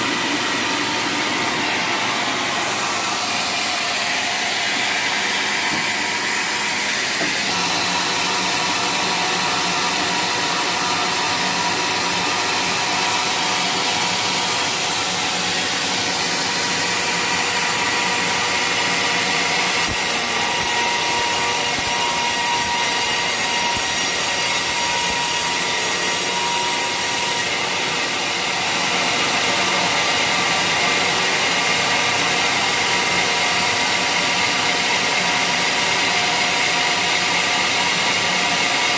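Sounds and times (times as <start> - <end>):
saw whining through wood: 0.0 - 38.9.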